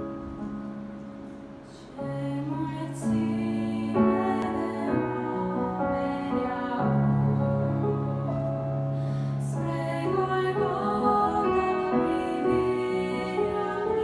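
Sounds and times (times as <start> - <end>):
digital piano slow chords: 0.0 - 14.0.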